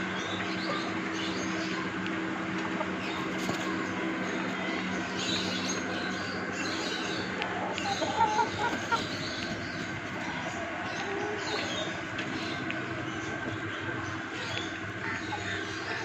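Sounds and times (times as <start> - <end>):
chickens clucking: 0.0 - 16.0
steady background hum: 0.0 - 16.0.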